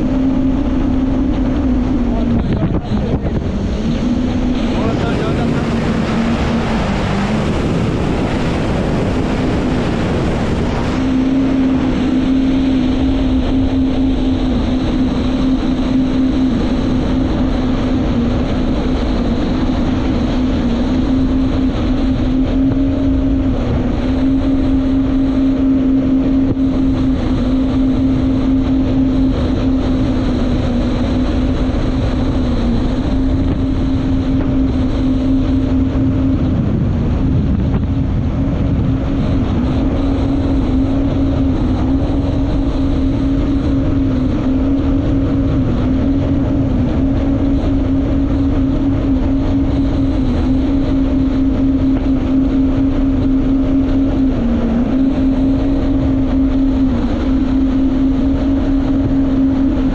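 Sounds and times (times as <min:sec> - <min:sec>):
jet ski engine running: 0:00.0 - 0:59.9
wind noise on microphone: 0:00.0 - 0:59.9.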